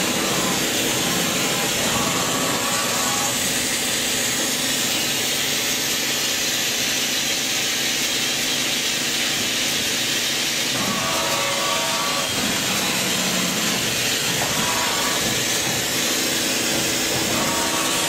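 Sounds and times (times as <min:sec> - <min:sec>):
machine mechanical hum: 0:00.0 - 0:18.0.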